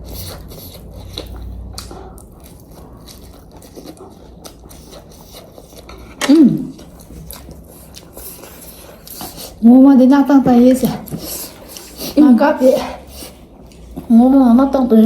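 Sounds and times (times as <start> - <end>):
person chewing crunchy food: 0.0 - 9.6, 10.8 - 12.3, 13.0 - 14.1.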